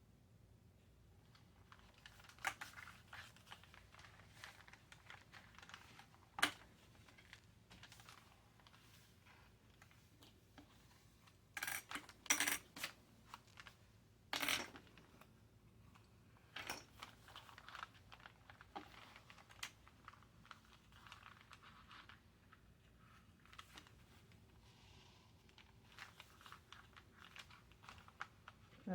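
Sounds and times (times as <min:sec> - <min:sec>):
small clicks and handling noises: 0:01.2 - 0:28.9.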